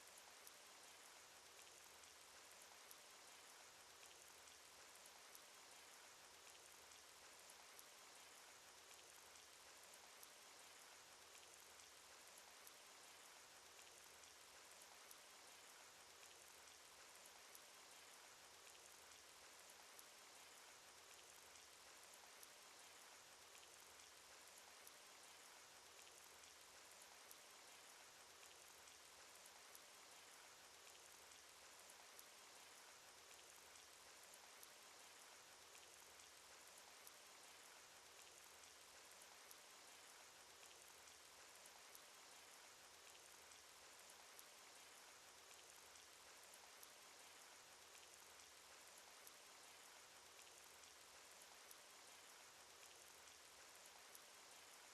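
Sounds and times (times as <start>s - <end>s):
faint steady rainfall: 0.0s - 54.9s
raindrop ticks: 0.1s - 54.9s.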